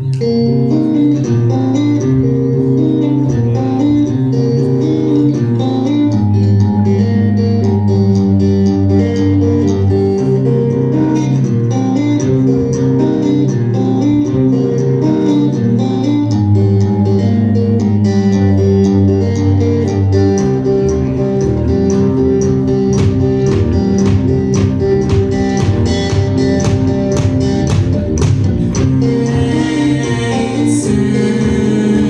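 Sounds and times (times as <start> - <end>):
band playing slow instrumental song: 0.0 - 32.0.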